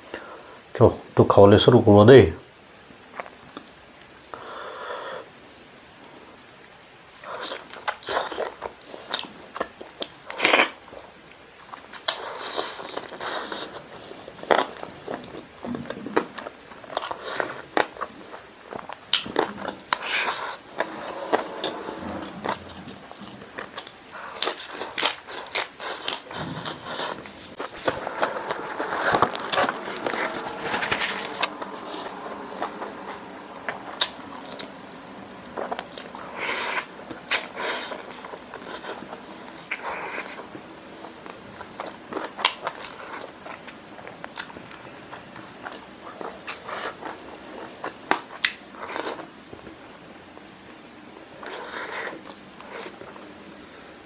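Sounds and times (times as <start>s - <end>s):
person chewing: 7.2s - 49.3s, 51.4s - 53.2s.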